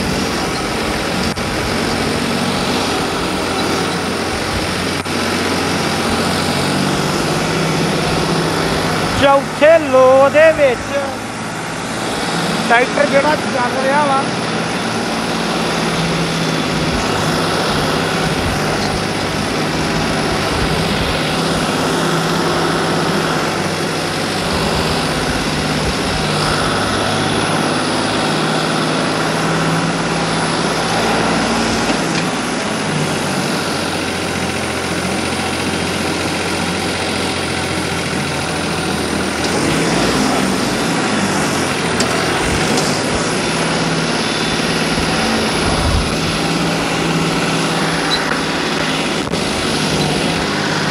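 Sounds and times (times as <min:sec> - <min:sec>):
diesel tractor engine under load: 0:00.0 - 0:50.9.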